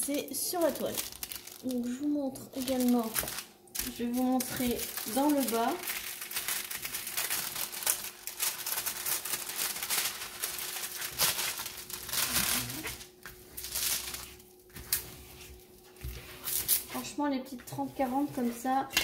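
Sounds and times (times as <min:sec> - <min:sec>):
plastic film crinkling: 0:00.0 - 0:17.2.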